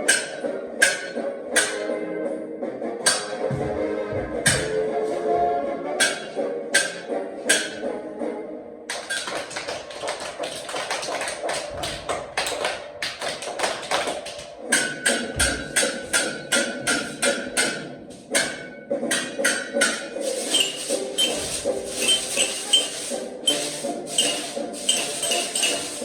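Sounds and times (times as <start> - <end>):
music: 0.0 - 26.0.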